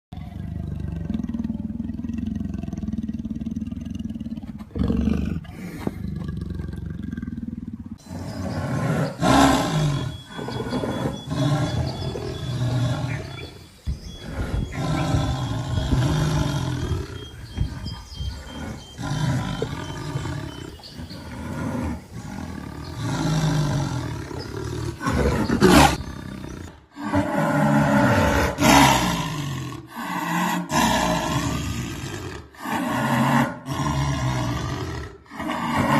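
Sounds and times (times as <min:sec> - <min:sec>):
jaguar growling and roaring: 0:00.2 - 0:35.9.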